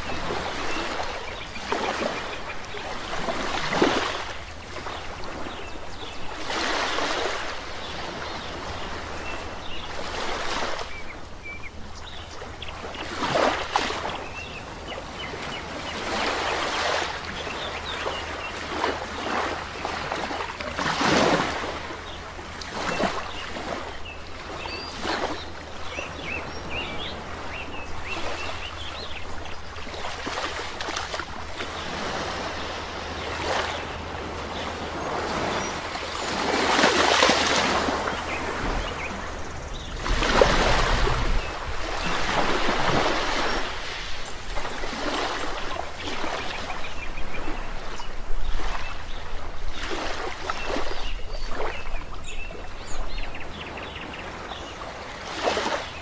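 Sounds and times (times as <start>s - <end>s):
small birds chirping: 0.0s - 20.7s, 21.5s - 56.0s
sea waves washing on shore: 0.0s - 56.0s.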